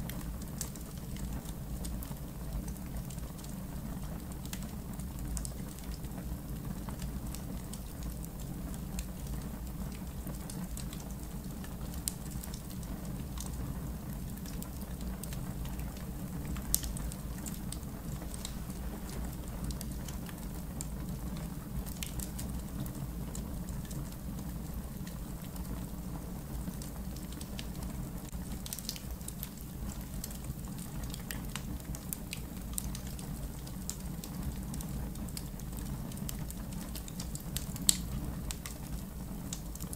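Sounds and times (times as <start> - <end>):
campfire crackling and popping: 4.1 - 39.9.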